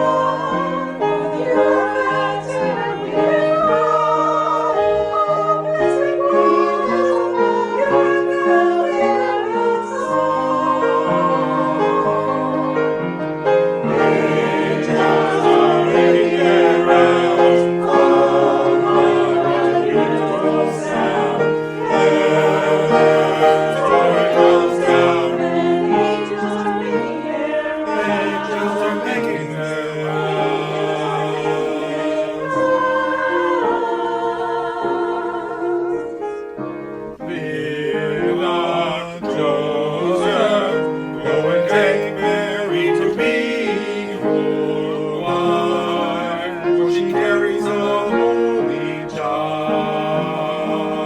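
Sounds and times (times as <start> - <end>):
choir singing: 0.0 - 51.0
instrumental accompaniment: 0.0 - 51.0.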